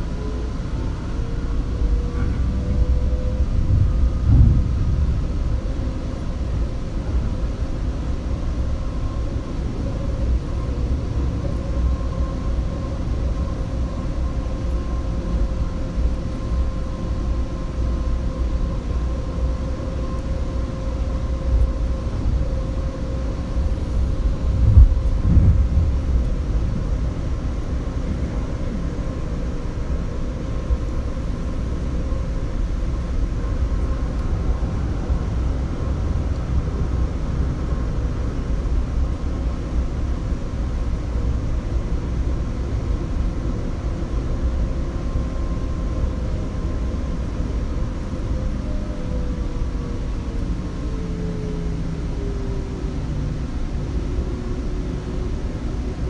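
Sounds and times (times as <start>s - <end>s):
faint steady whine: 0.0s - 56.0s
light rail car rumble: 0.0s - 56.0s.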